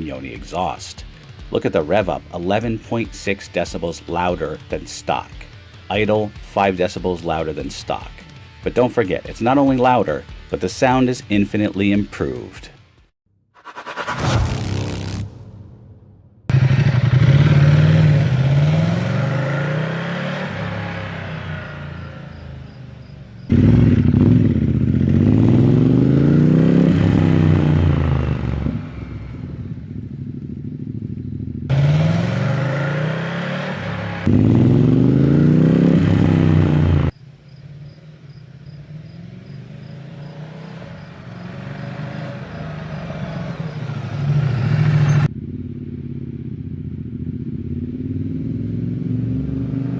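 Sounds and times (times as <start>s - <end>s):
motorcycle engine revving: 0.0s - 11.7s, 16.3s - 49.9s.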